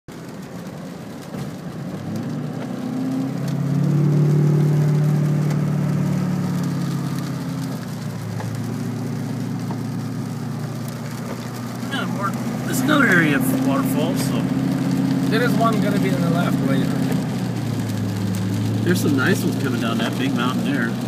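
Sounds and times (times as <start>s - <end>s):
car engine running: 0.1s - 21.0s.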